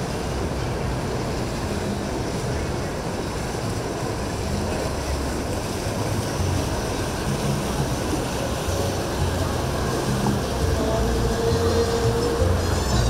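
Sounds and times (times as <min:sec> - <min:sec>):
boat engines rumbling: 0:00.0 - 0:13.0
water and waves: 0:00.0 - 0:13.0.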